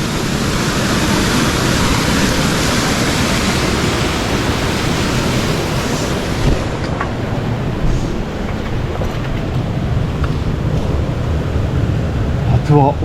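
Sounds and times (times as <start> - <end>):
mountain stream rushing over rocks: 0.0 - 13.0.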